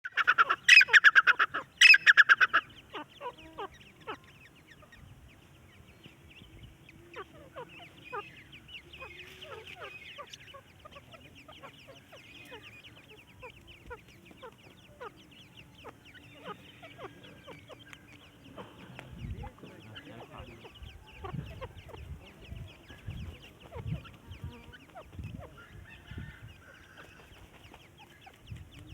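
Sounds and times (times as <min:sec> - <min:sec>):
partridge calling: 0:00.0 - 0:28.9.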